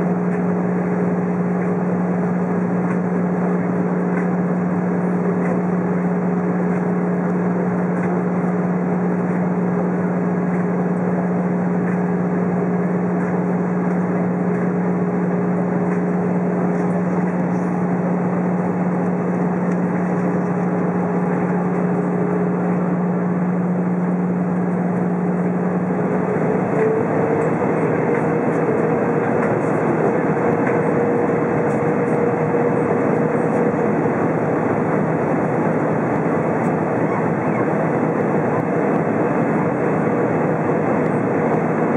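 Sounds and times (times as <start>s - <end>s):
aircraft engine hum: 0.0s - 41.9s.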